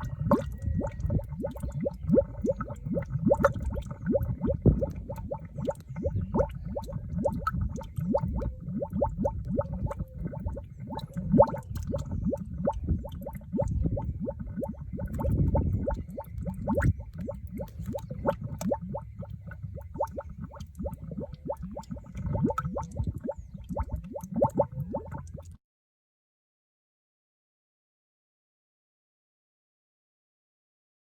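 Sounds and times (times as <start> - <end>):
mud bubbling and popping: 0.0 - 25.6.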